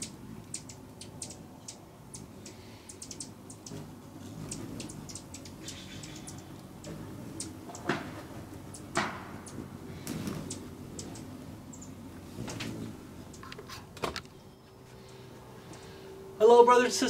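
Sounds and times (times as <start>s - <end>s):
hum of hummingbird wings: 0.0s - 17.0s
hummingbird chip notes: 0.0s - 17.0s.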